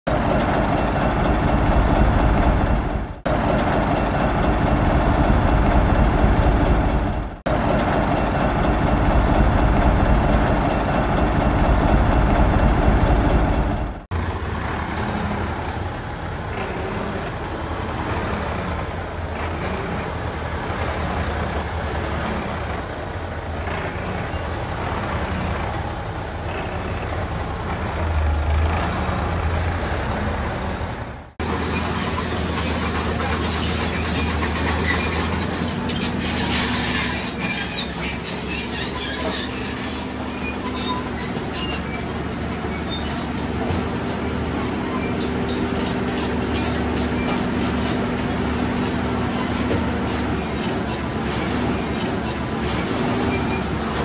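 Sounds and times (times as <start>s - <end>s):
heavy diesel machinery running: 0.1s - 54.0s.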